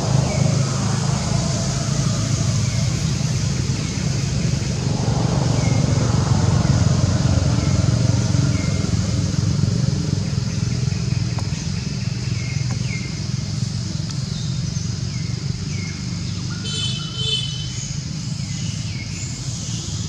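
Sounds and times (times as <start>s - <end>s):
low rumble of traffic: 0.0s - 20.0s.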